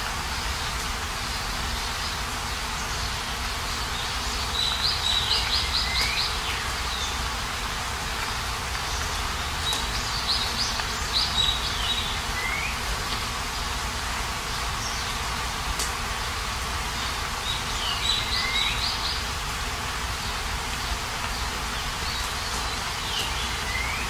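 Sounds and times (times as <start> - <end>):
rain hiss: 0.0 - 24.0
songbird singing: 0.3 - 15.5, 16.1 - 24.0.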